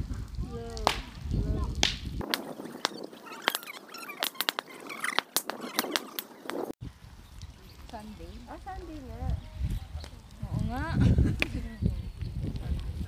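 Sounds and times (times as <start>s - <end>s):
bonfire crackling and popping: 0.0s - 13.0s
voices: 0.2s - 6.7s, 7.4s - 13.0s.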